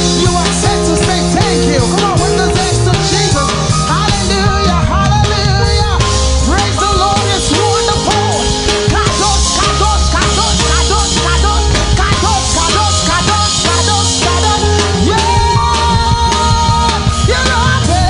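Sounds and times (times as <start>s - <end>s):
driving drums: 0.0s - 18.0s
heavy bass line: 0.0s - 18.0s
live band music: 0.0s - 18.0s.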